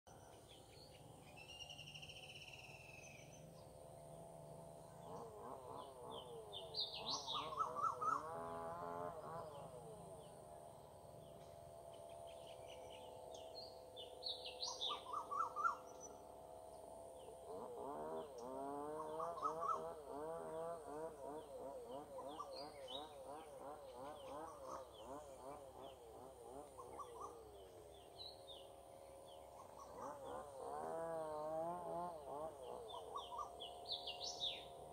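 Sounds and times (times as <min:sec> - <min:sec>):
birds chirping and calling: 0:00.1 - 0:34.9
low wavering warble: 0:00.1 - 0:34.9.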